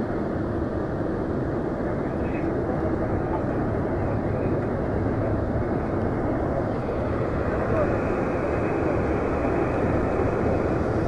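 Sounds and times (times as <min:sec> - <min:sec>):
vehicle road noise inside cabin: 0:00.0 - 0:11.0.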